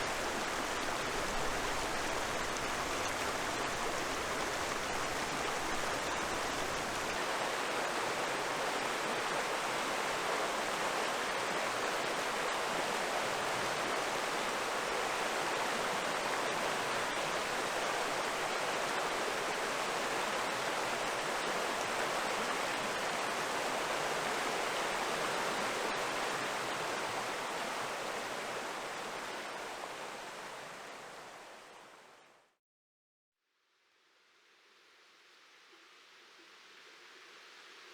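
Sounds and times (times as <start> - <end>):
river water rushing: 0.0 - 31.6.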